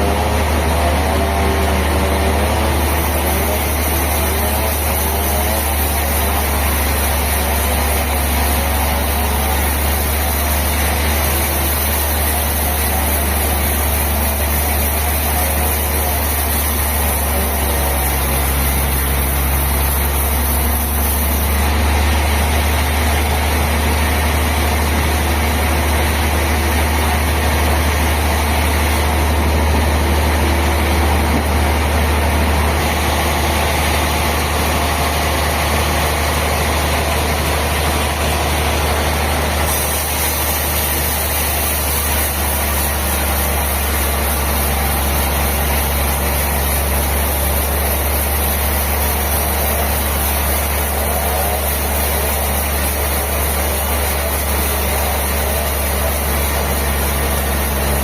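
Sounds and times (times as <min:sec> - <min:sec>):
sawmill machinery drone: 0:00.0 - 0:58.0.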